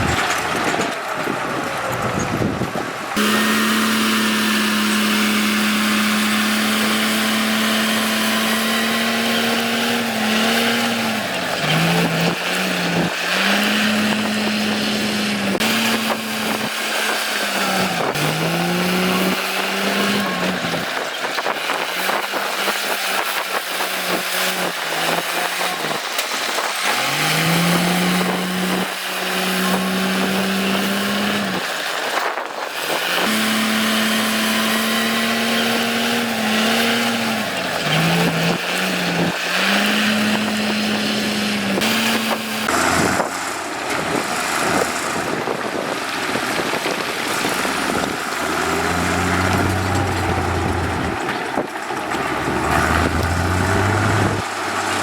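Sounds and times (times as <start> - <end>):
heavy diesel engine under load: 0.0 - 55.0.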